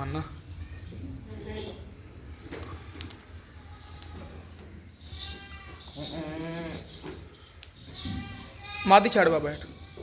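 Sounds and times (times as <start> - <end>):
goat bleating: 0.7 - 7.0, 7.9 - 10.0.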